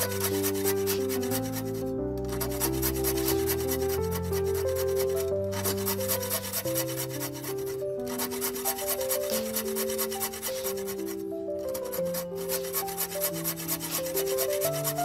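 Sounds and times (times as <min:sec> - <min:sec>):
background music with held notes: 0:00.0 - 0:15.0
hand saw rasping through wood: 0:00.0 - 0:15.0.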